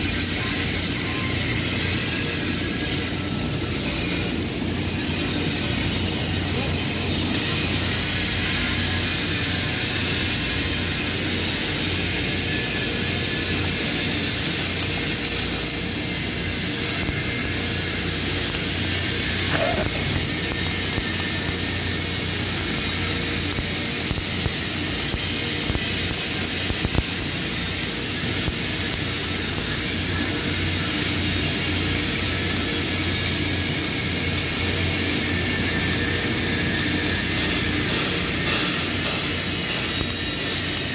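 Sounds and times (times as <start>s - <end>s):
welding arc crackling hiss: 0.0s - 40.9s.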